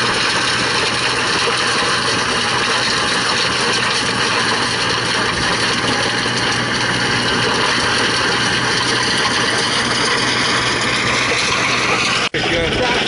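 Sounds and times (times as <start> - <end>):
stone crusher working: 0.0 - 13.0
tractor engine running: 0.0 - 13.0.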